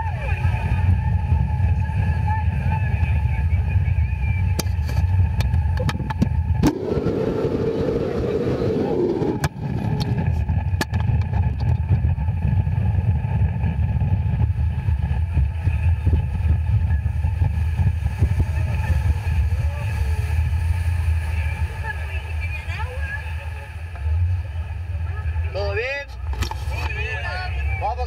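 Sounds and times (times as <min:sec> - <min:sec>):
rushing noise: 0:00.0 - 0:25.9
motorboat engine rumbling: 0:00.0 - 0:28.0.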